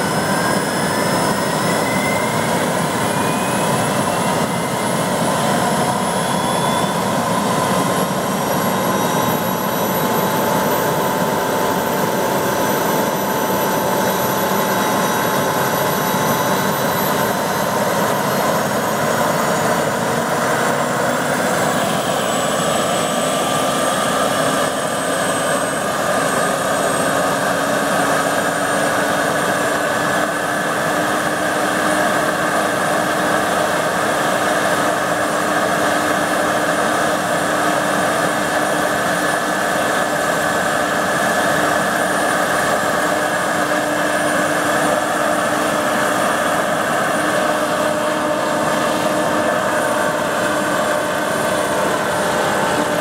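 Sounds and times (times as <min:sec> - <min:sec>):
model turbine engine whine: 0:00.0 - 0:53.0.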